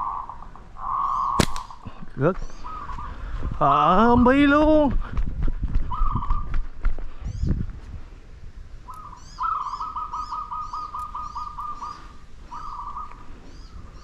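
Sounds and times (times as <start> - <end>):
birds calling: 0.0 - 4.5, 5.8 - 7.6, 8.8 - 14.0.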